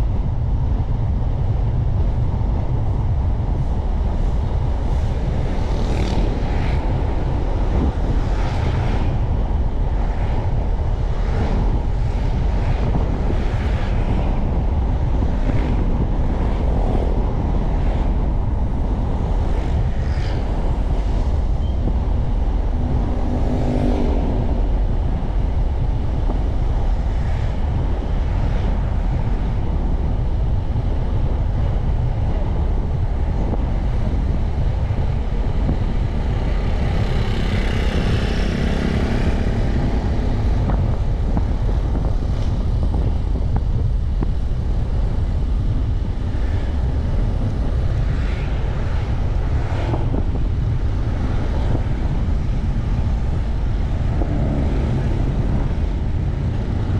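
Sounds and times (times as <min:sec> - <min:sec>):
road and wind rumble: 0:00.0 - 0:56.9
vehicles passing: 0:00.0 - 0:56.9.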